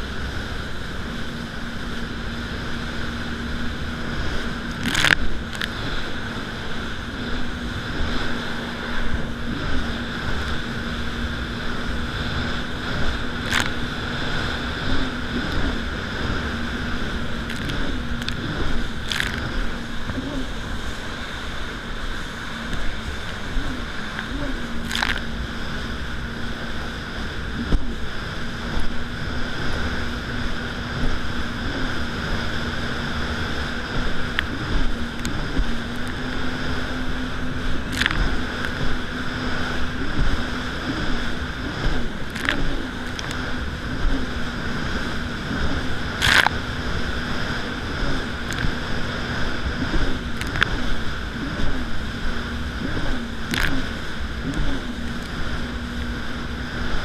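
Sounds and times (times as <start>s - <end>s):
jet ski engine running: 0.0s - 57.0s
rushing water and spray: 0.0s - 57.0s.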